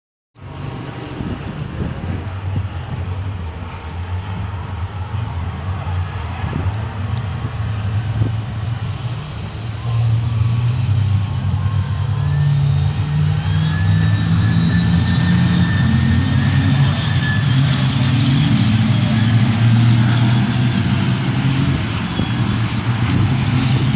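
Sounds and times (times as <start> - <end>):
diesel engine running hard: 0.5 - 23.9.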